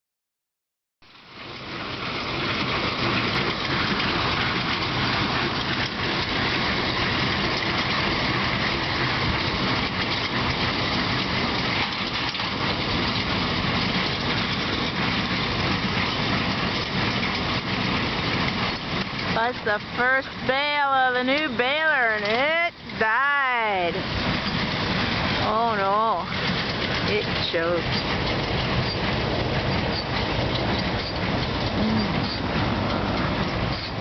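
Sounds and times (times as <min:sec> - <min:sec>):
tractor and hay baler working: 0:01.0 - 0:34.0.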